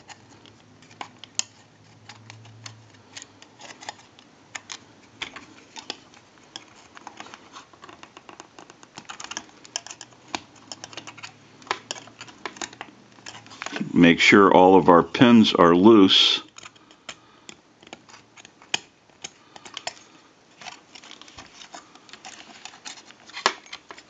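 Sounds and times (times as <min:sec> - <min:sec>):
metal pick clicking and scratching: 0:00.0 - 0:13.8, 0:16.5 - 0:24.0.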